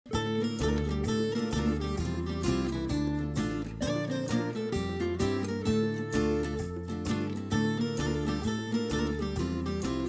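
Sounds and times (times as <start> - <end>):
plucked string instrument music: 0.0 - 10.0
bass line: 0.1 - 10.0.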